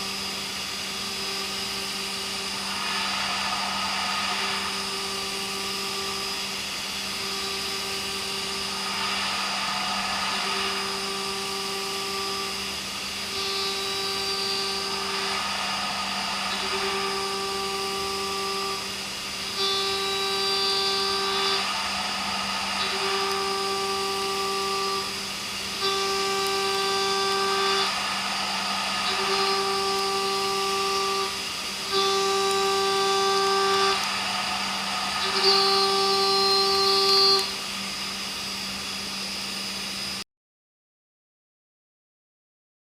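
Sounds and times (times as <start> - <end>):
milling cutter cutting steel: 0.0 - 38.2
spindle hum: 0.0 - 40.2.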